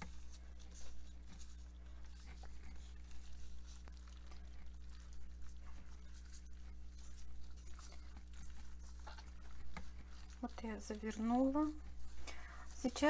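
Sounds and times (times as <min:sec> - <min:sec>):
rustling and soft squishing: 0:00.0 - 0:13.0
steady low hum: 0:00.0 - 0:13.0.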